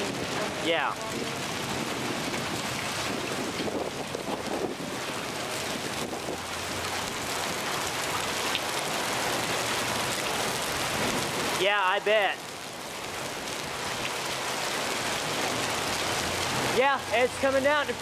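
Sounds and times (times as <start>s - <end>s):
rain and hail falling: 0.0s - 18.0s.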